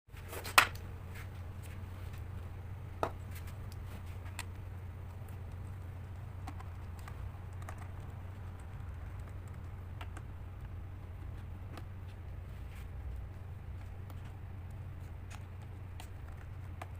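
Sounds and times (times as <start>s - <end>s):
steady low hum: 0.1s - 16.9s.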